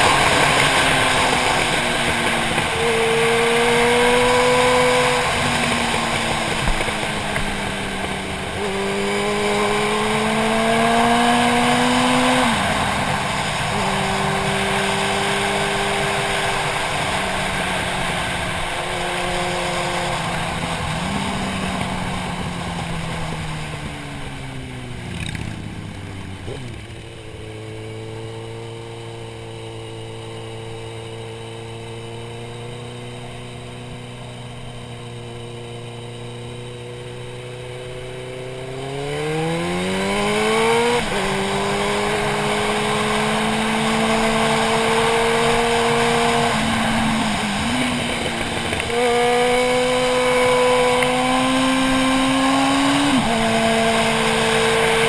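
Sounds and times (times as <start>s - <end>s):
motorcycle engine: 0.0s - 55.0s.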